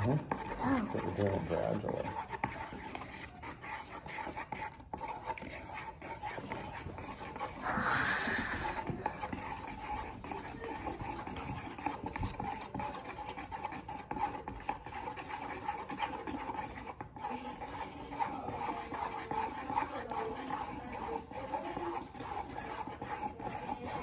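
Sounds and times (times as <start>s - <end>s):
slime stirred in plastic bowl: 0.0s - 24.0s.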